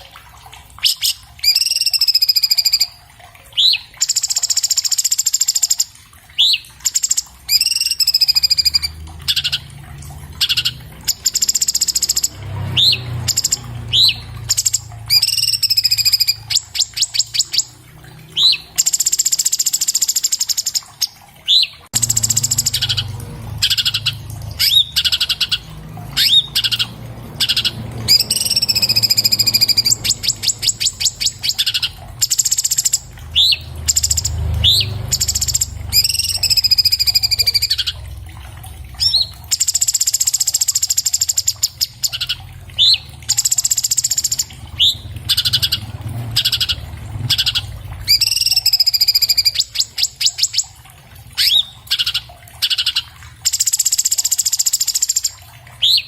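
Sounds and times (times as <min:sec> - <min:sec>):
bird singing whistles and trills: 0:00.8 - 0:09.7, 0:10.4 - 0:17.8, 0:18.4 - 0:38.0, 0:39.0 - 0:50.7, 0:51.4 - 0:56.0.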